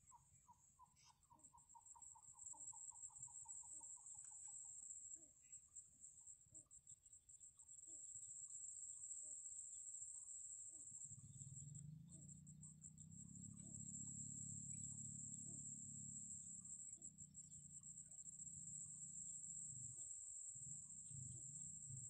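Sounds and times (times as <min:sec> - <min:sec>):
high insect trill: 0:01.2 - 0:22.0.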